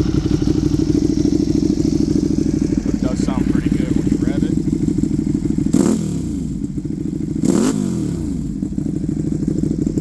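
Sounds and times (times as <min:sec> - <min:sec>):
motorcycle engine idling: 0:00.0 - 0:10.0
motorcycle throttle blips: 0:00.0 - 0:10.0.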